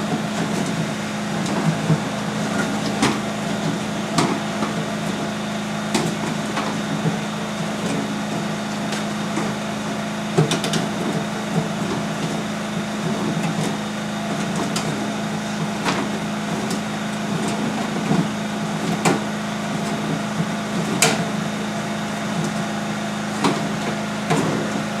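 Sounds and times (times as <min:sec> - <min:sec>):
vacuum machine humming: 0:00.0 - 0:25.0.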